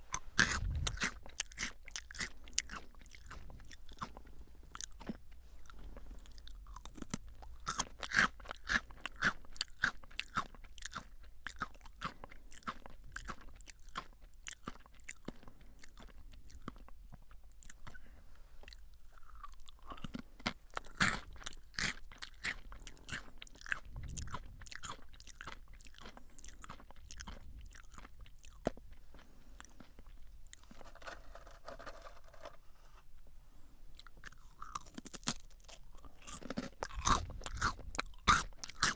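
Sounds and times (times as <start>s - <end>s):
crunching and chewing potato sticks: 0.0s - 32.6s, 33.9s - 38.9s.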